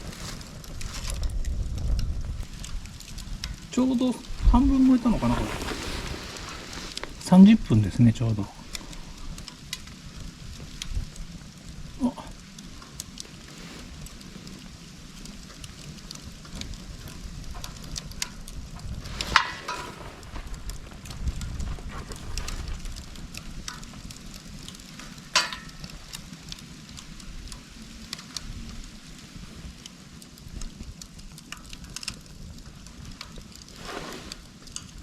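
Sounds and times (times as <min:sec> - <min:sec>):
fire crackling: 0:00.0 - 0:35.0
low rumble of fire: 0:00.0 - 0:35.0.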